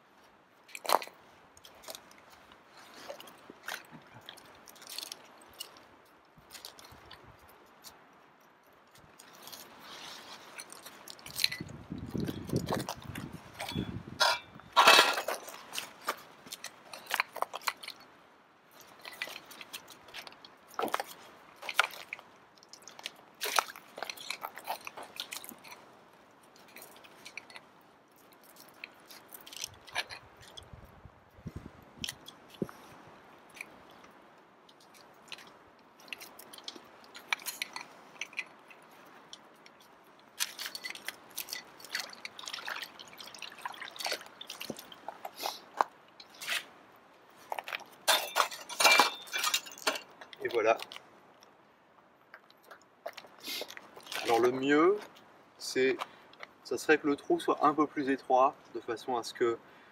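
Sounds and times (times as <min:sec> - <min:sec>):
crunching on ice: 0:00.7 - 0:08.0, 0:08.9 - 0:30.7, 0:34.7 - 0:46.7, 0:47.4 - 0:51.6, 0:52.3 - 0:56.5.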